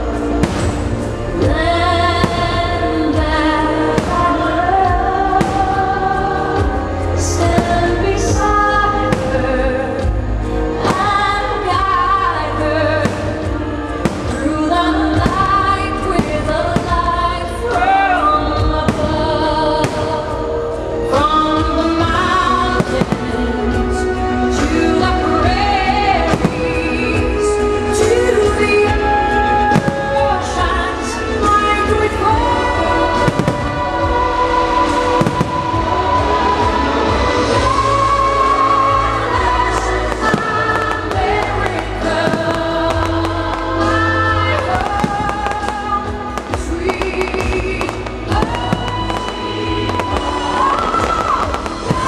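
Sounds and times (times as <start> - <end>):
show music with choral singing: 0.0 - 52.0
fireworks banging: 0.1 - 17.9, 18.5 - 20.6, 21.2 - 24.0, 24.6 - 52.0.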